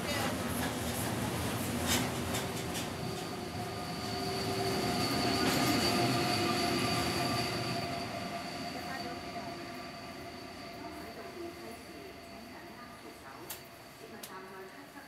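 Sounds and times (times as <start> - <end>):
train wheels rushing: 0.0 - 12.7.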